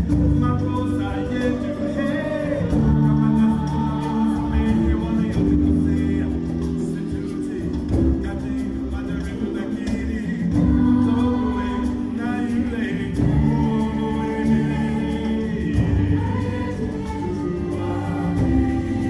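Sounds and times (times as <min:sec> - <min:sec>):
choir singing sustained chords: 0:00.0 - 0:08.1, 0:10.5 - 0:19.0.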